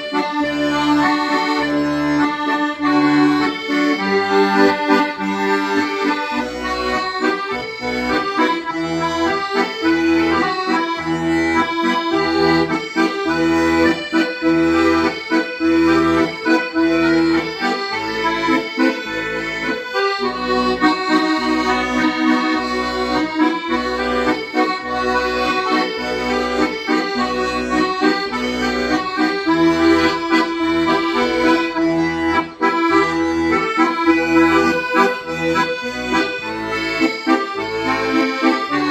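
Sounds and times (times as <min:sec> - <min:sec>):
accordion playing a melody: 0:00.0 - 0:38.9.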